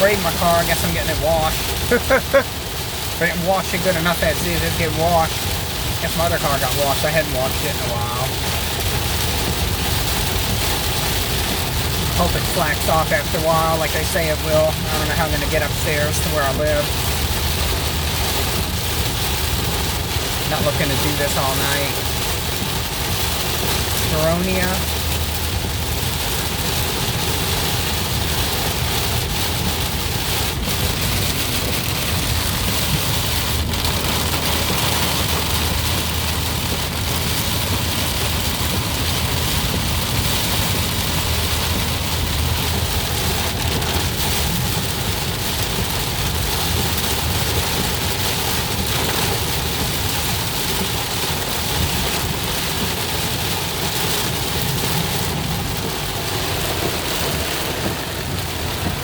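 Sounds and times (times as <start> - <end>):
car driving on wet road: 0.0 - 59.0
heavy rain on car roof: 0.0 - 59.0.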